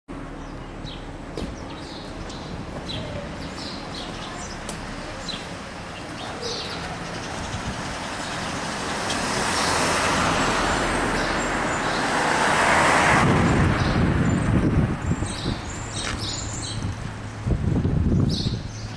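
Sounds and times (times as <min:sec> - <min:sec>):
cars passing: 0:00.1 - 0:18.9.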